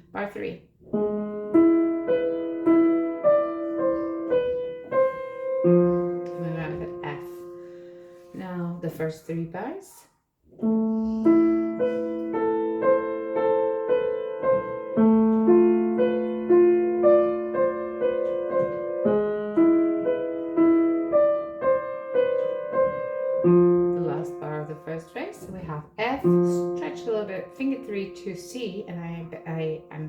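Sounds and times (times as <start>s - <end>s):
slow piano notes: 0.0s - 9.6s, 10.4s - 30.0s.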